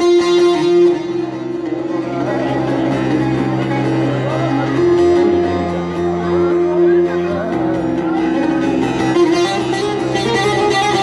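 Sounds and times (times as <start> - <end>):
keyboard sustained chords: 0.0 - 11.0
long-necked lute plucked: 0.0 - 11.0.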